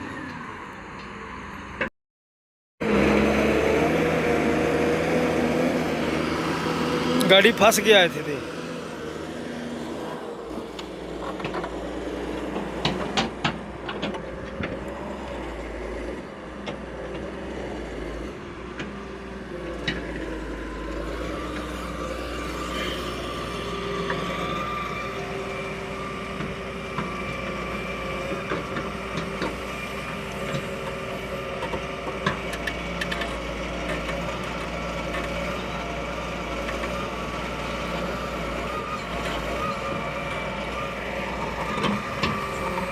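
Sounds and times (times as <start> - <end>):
vehicle engine running: 2.8 - 42.9.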